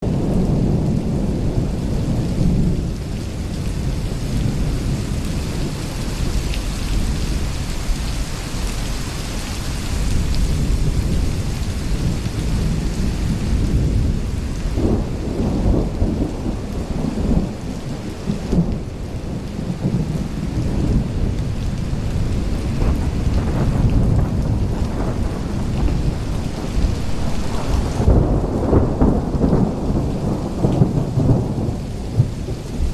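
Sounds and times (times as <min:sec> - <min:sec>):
low rolling thunder: 0:00.0 - 0:32.9
steady rain falling: 0:00.0 - 0:32.9.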